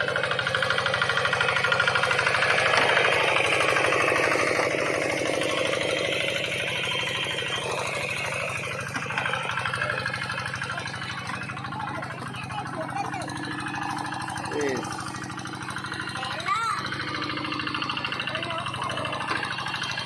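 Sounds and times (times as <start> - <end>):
tractor engine knocking: 0.0 - 20.0.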